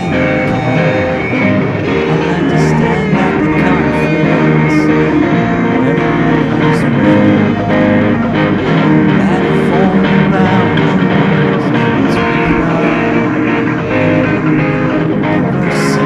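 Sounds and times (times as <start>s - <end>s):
man singing: 0.0s - 8.1s, 8.8s - 16.0s
rock song on electric guitar: 0.0s - 16.0s.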